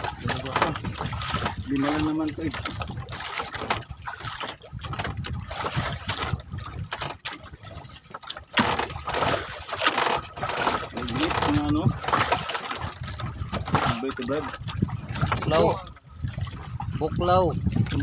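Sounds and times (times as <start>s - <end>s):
sea water lapping against boat: 0.0s - 18.0s.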